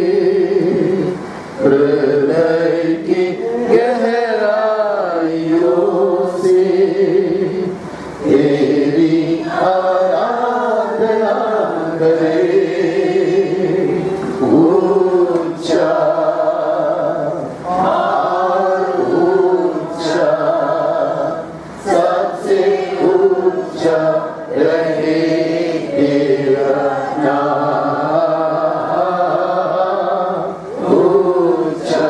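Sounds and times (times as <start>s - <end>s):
congregation singing a chant: 0.0s - 32.0s.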